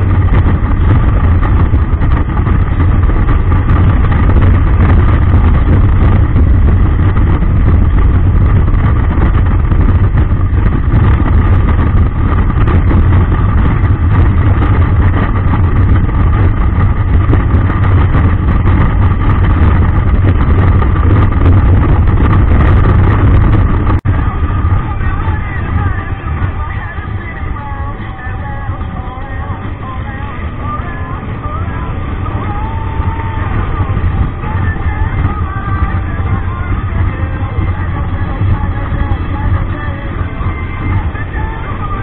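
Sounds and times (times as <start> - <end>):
motorcycle engine and road noise: 0.0 - 42.0
wind rumble: 0.0 - 42.0.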